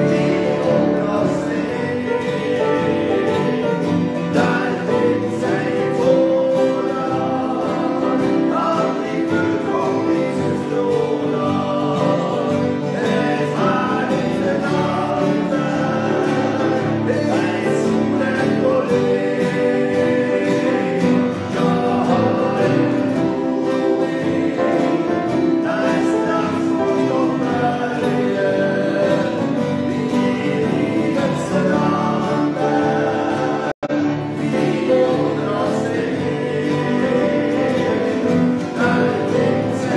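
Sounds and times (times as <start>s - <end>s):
acoustic guitars: 0.0s - 39.9s
two men singing a hymn: 0.0s - 39.9s.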